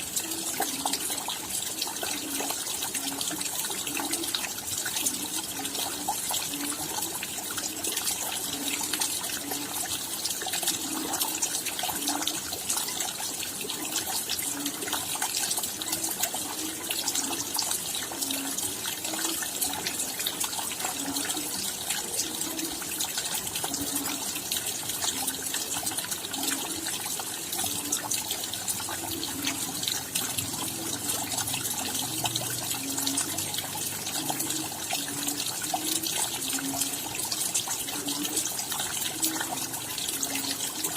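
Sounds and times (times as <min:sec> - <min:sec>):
low drip sound: 0:00.0 - 0:40.9
steady rainfall: 0:00.0 - 0:40.9.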